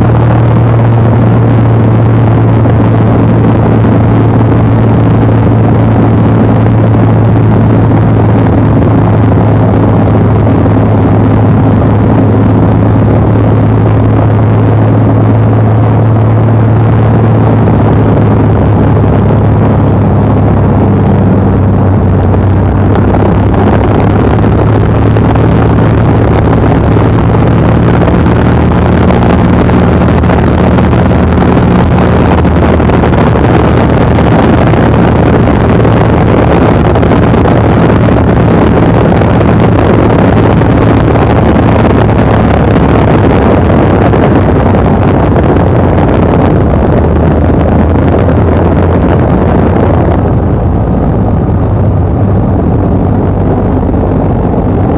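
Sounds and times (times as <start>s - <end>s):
airplane piston engine drone: 0.0s - 54.9s
rushing air: 0.0s - 54.9s.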